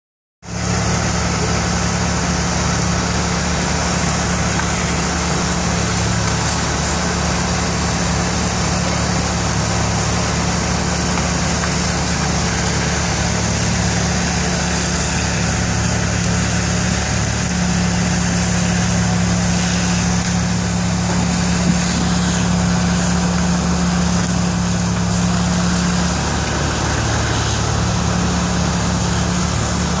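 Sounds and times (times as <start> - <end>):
fire engine drone: 0.4 - 30.0.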